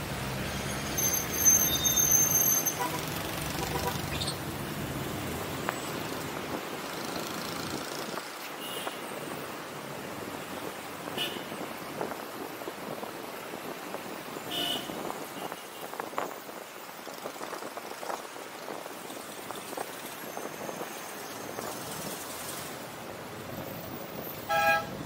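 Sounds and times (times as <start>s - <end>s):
city road traffic: 0.0s - 25.0s.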